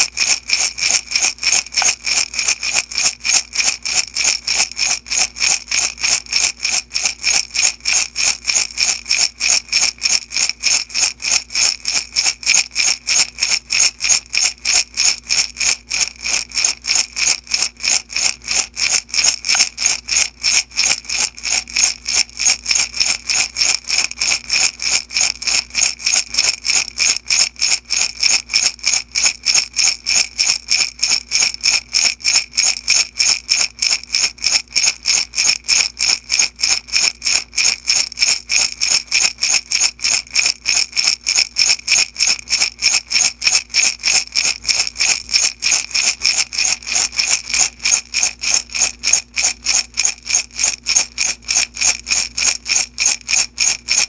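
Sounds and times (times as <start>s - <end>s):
beads rattling in a glass jar: 0.0s - 54.0s.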